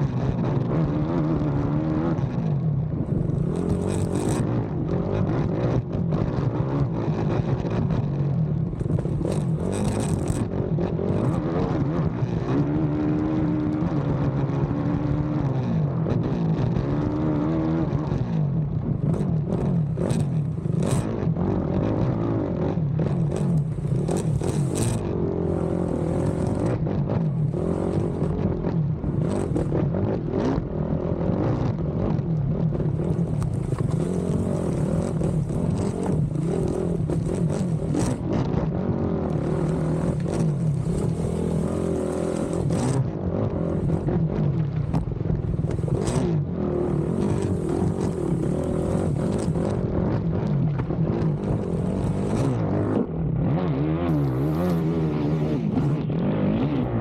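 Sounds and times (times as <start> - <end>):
atv engine revving: 0.0 - 57.0
knocks and clatter over rough track: 0.0 - 57.0.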